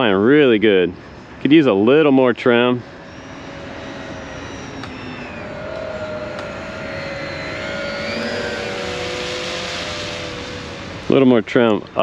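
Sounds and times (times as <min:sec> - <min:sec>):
model airplane electric motors whining: 0:00.0 - 0:12.0.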